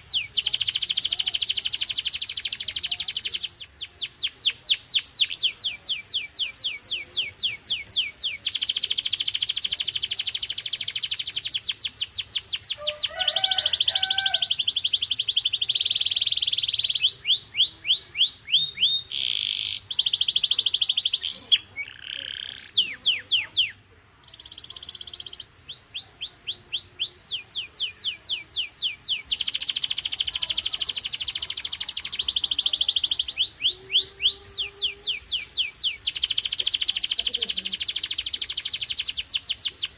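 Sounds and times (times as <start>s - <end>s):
canary singing rolls and trills: 0.0s - 39.9s.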